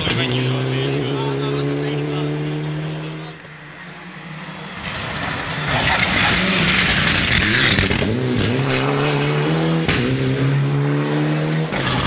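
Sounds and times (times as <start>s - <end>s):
rally car engine: 0.0s - 12.0s.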